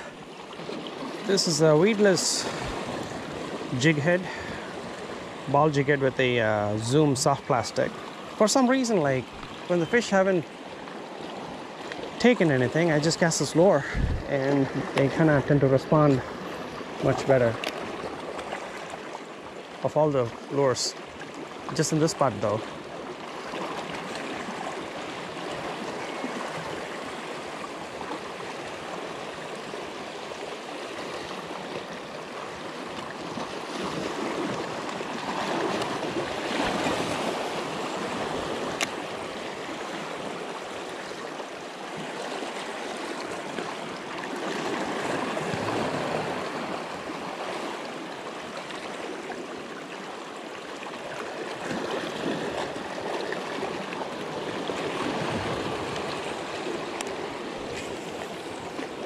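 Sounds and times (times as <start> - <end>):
waves washing over rocks: 0.0 - 59.0.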